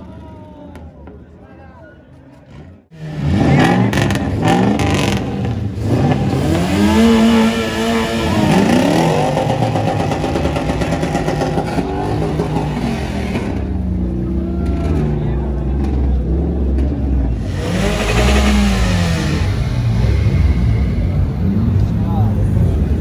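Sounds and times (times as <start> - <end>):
car engine revving: 2.9 - 23.0.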